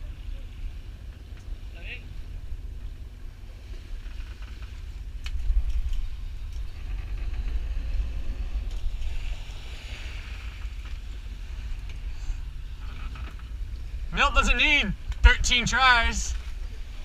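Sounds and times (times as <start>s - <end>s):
wind buffeting microphone: 0.0s - 14.2s
boat engine drone: 0.0s - 17.0s.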